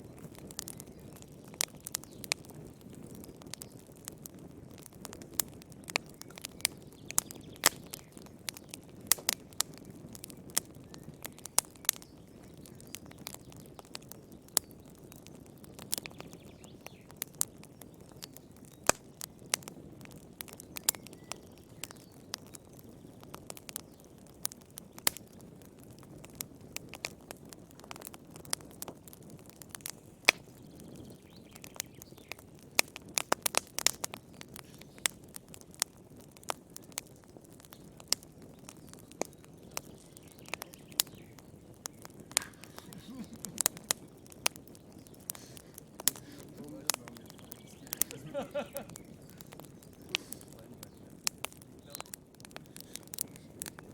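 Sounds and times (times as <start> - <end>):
fire crackling and popping: 0.0 - 53.9
low rush of flames: 0.0 - 53.9.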